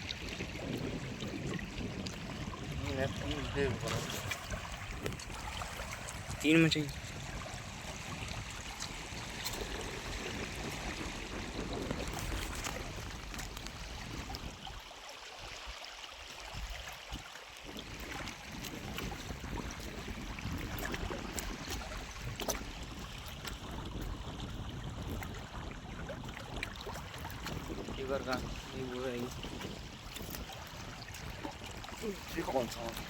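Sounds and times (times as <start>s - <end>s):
rush of wind or water: 0.0s - 33.0s.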